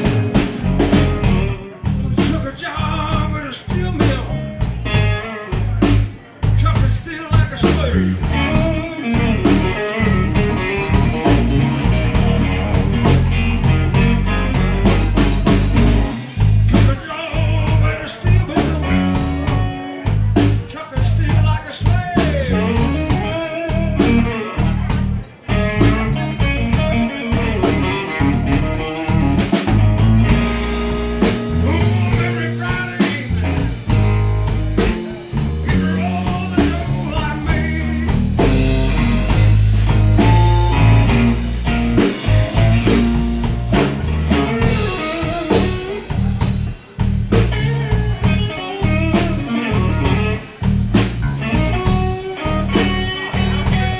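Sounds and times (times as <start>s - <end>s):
blues-rock band playing: 0.0s - 53.9s.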